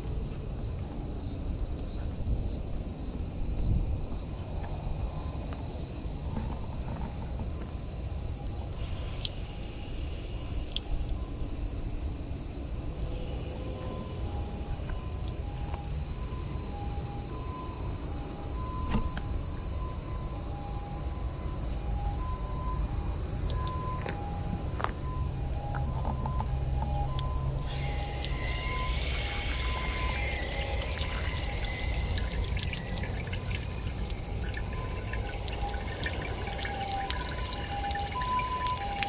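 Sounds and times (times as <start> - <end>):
insects chorus: 0.0 - 39.0.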